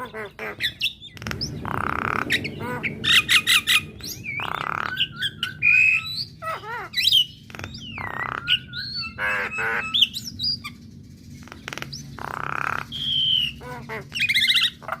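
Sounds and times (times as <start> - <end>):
myna bird singing: 0.0 - 15.0.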